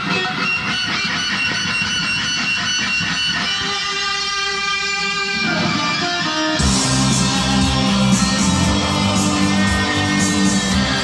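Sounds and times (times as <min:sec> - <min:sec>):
guitar instrumental music: 0:00.0 - 0:11.0.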